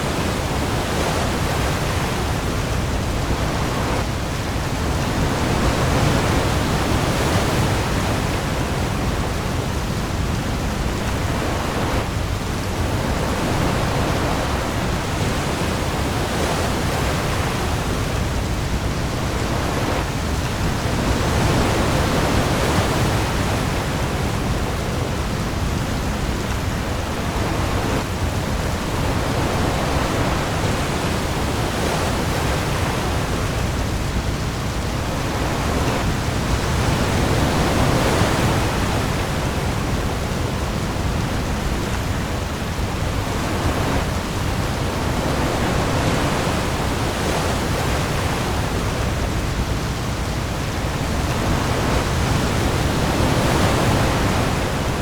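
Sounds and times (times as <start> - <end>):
heavy rain on sea: 0.0 - 55.0
waves: 0.0 - 55.0.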